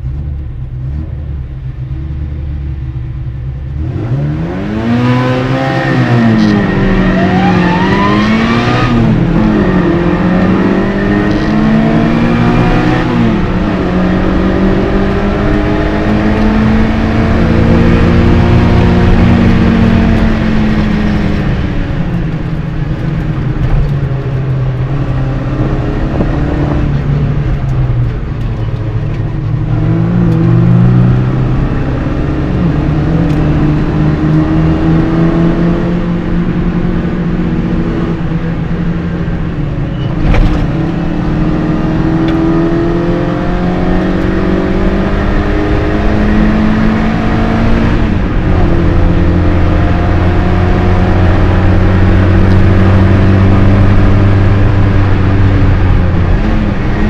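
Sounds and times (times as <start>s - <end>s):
race car engine revving: 3.5s - 57.0s.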